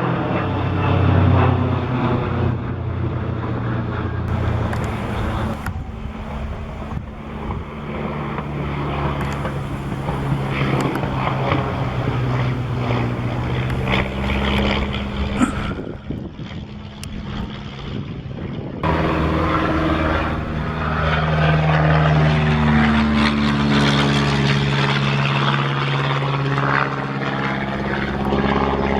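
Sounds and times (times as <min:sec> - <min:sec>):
propeller plane engine drone: 0:00.0 - 0:28.9.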